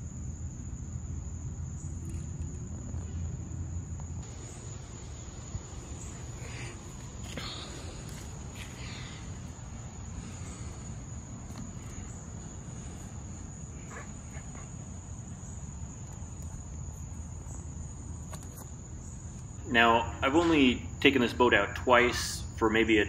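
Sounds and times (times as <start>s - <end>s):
crickets trilling: 0.0s - 23.0s
low outdoor rumble: 0.0s - 23.0s.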